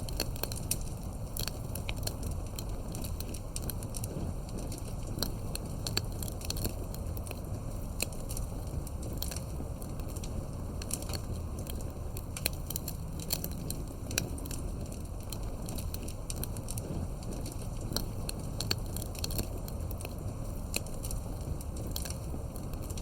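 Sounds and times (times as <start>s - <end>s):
fire low rumble: 0.0s - 23.0s
wood crackling and popping in fire: 0.0s - 23.0s.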